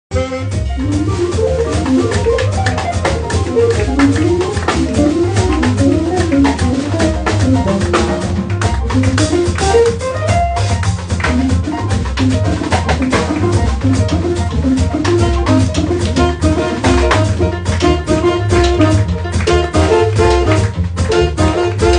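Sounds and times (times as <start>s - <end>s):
double bass: 0.1s - 21.9s
drum kit: 0.1s - 21.9s.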